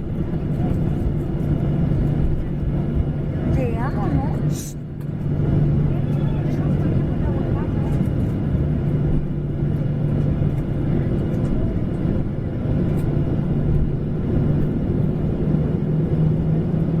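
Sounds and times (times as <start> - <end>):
airliner engines rumbling in cabin: 0.0 - 17.0.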